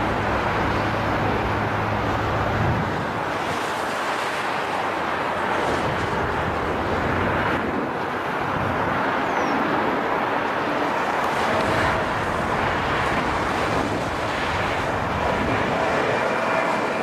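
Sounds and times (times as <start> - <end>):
faint engine whine: 0.0 - 17.0
jet engines rushing: 0.0 - 17.0.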